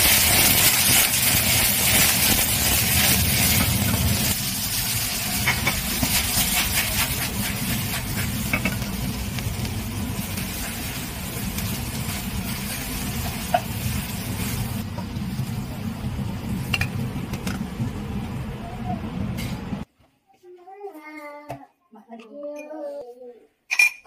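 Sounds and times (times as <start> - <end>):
food sizzling in a wok: 0.0 - 19.8.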